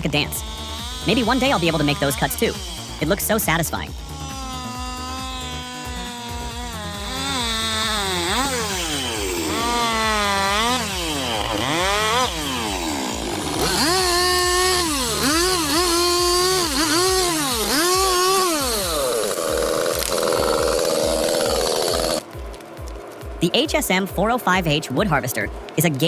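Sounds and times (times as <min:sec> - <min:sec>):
chainsaw cutting wood: 0:00.0 - 0:23.4.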